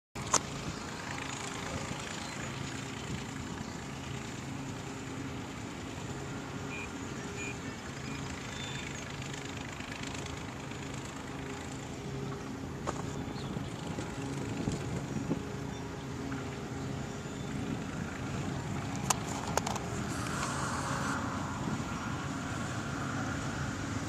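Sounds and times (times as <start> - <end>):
engines humming: 0.2 - 24.0
outdoor noise: 0.2 - 24.0.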